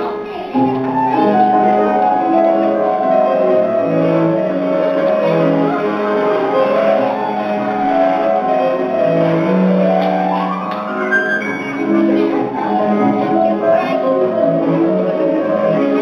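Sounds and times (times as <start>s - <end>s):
instrumental dance music: 0.1s - 16.0s.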